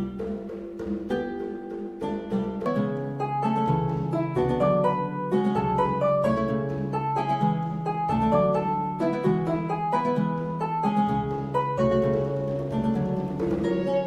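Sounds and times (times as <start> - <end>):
plucked string notes: 0.0 - 14.0.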